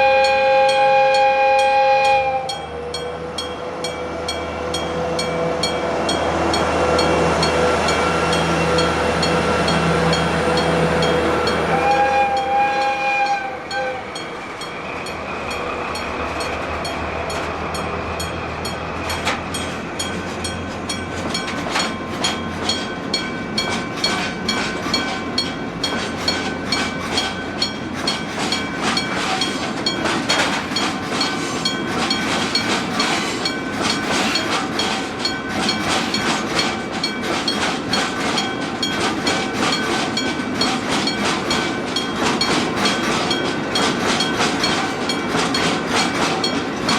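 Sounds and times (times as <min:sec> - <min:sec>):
crossing warning bell ringing: 0:00.0 - 0:46.9
train wheels clicking on rail joints: 0:00.0 - 0:46.9.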